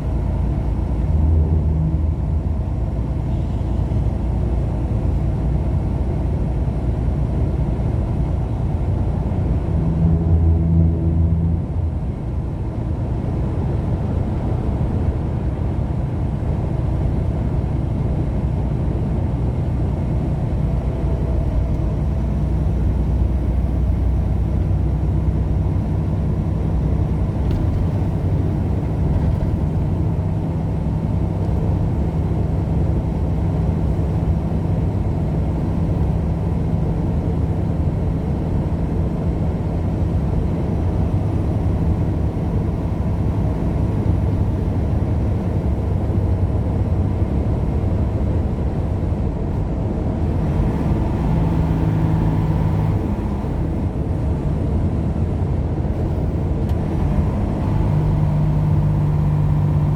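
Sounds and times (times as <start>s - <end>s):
car engine drone: 0.0s - 59.9s
road rumble: 0.0s - 59.9s.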